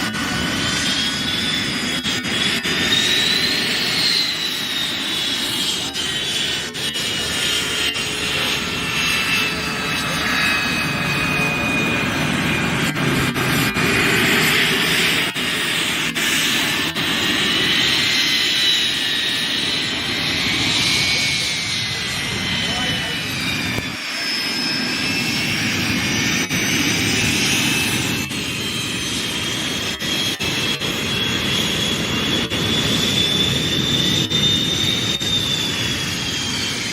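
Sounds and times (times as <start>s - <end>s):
high jet whine: 0.0s - 36.9s
jet engines rushing: 0.0s - 36.9s.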